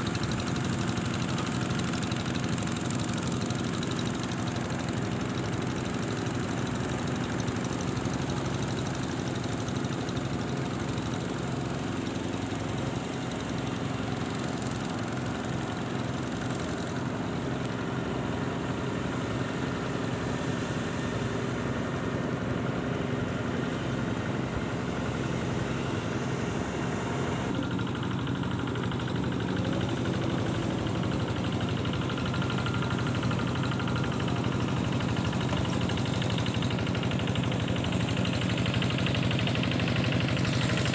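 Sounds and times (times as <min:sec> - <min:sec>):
motor engine idling: 0:00.0 - 0:40.9.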